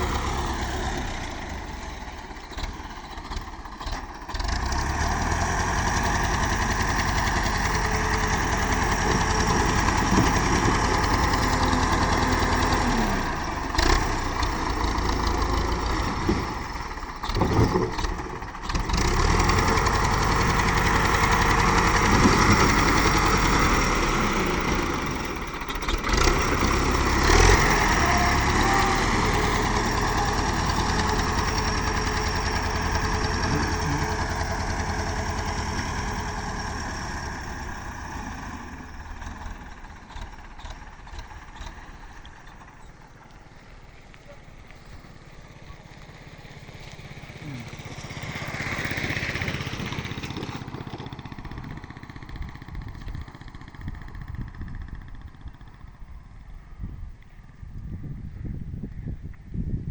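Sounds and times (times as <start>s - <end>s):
tractor diesel engine running: 0.0s - 59.8s.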